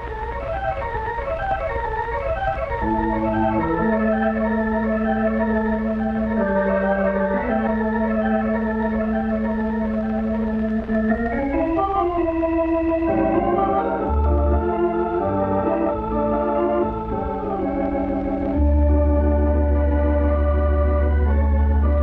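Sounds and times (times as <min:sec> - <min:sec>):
deep organ bass notes: 0:00.0 - 0:22.0
organ chords: 0:00.0 - 0:22.0.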